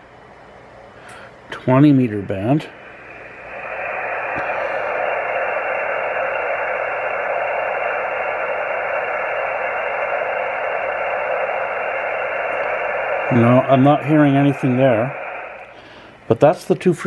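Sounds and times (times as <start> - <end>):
radio static hiss: 1.1 - 16.9.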